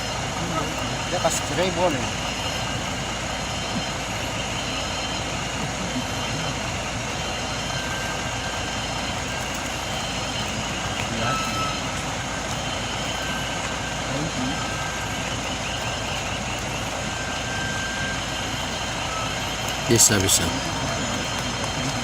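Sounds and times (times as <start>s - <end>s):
faint voices: 0.0s - 22.0s
truck engine running: 0.0s - 22.0s.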